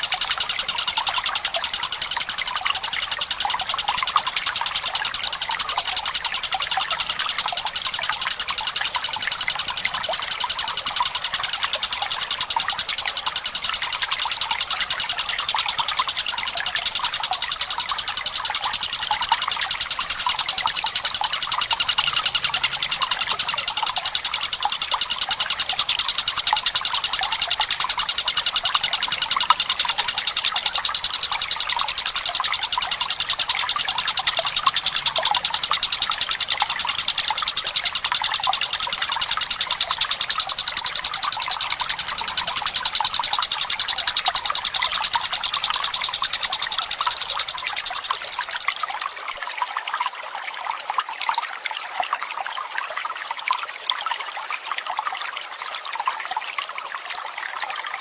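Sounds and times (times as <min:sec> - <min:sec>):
kingfisher rattling trill: 0:00.0 - 0:48.6
trickling water: 0:00.0 - 0:58.0.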